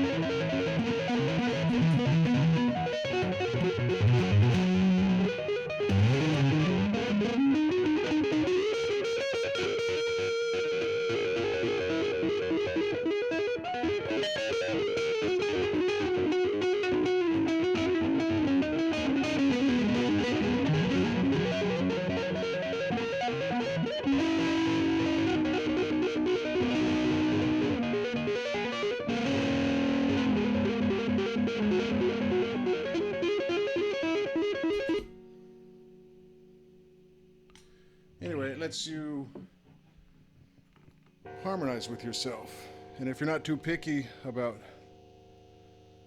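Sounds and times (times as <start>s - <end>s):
electric guitar tapping: 0.0s - 46.0s.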